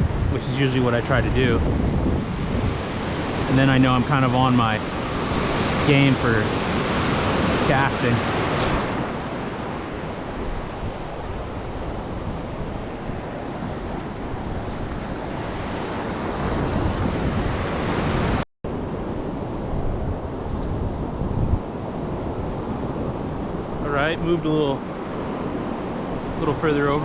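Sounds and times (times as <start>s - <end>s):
wind buffeting microphone: 0.0s - 26.5s
ocean surf on beach: 1.2s - 27.0s.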